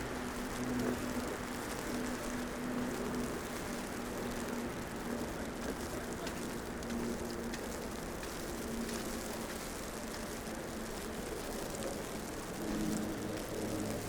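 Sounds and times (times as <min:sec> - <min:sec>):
traffic on wet street: 0:00.0 - 0:14.0.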